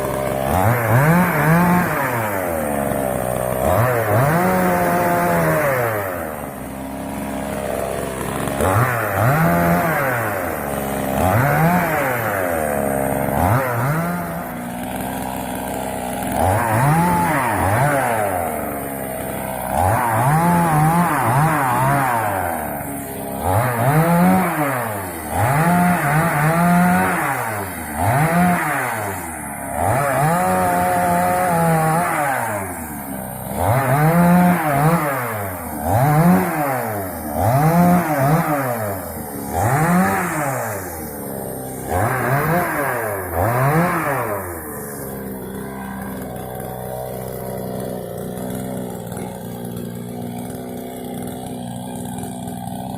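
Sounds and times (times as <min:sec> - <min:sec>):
chainsaw cutting dry wood: 0:00.0 - 0:52.9.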